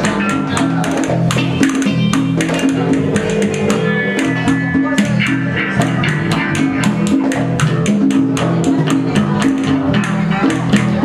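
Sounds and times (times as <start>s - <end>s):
conga and hand percussion hits: 0.0s - 11.0s
rock band playing: 0.0s - 11.0s.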